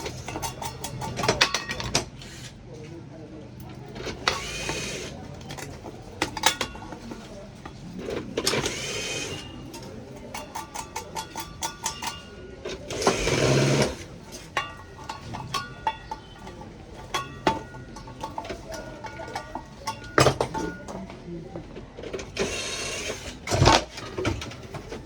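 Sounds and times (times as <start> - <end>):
metal tools clinking and tapping: 0.0 - 2.5, 3.6 - 25.0.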